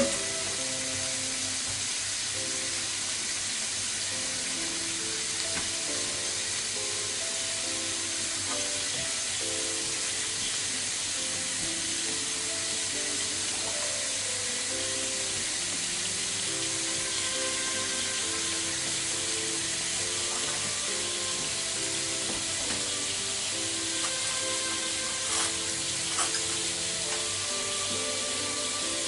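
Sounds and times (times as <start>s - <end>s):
soft background music: 0.0s - 29.0s
vegetables sizzling in frying pan: 0.0s - 29.0s.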